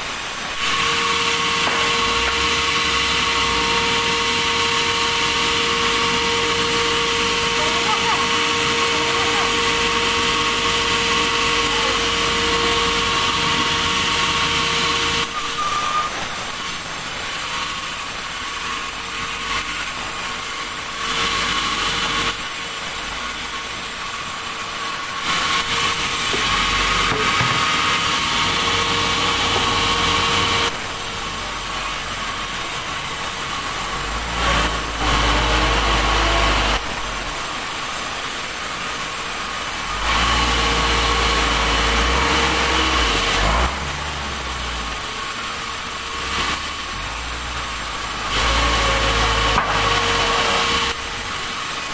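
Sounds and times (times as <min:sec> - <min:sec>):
sawmill machinery whining: 0:00.0 - 0:51.9.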